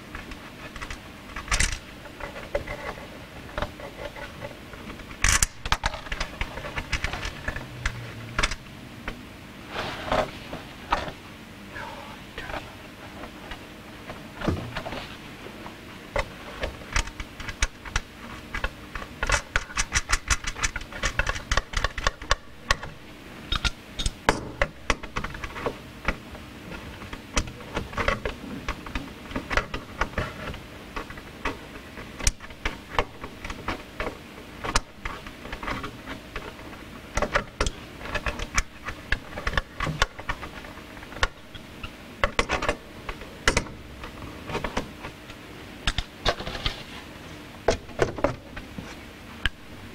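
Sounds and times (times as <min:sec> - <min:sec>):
electrical cables clicking and rattling: 0:00.0 - 0:09.2, 0:12.4 - 0:46.9
faint steady hum: 0:00.0 - 0:49.9.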